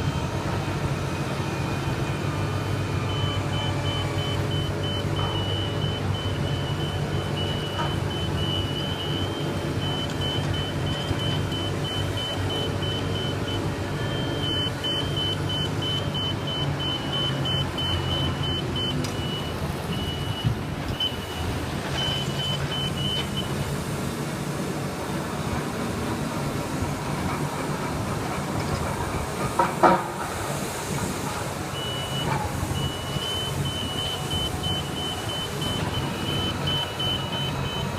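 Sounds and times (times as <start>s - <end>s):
heavy machine engine running: 0.0s - 37.9s.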